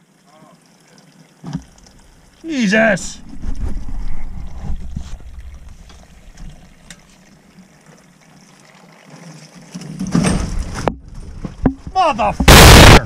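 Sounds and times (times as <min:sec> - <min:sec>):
water trickling from drain: 0:00.0 - 0:12.4.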